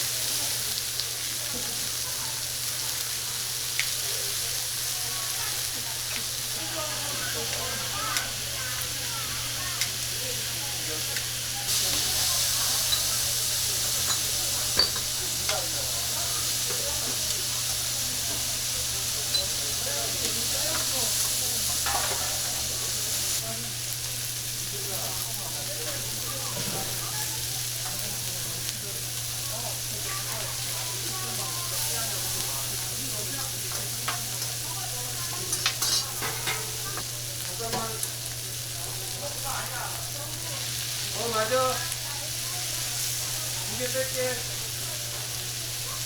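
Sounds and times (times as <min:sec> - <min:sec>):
pork sizzling on a griddle: 0:00.0 - 0:46.0.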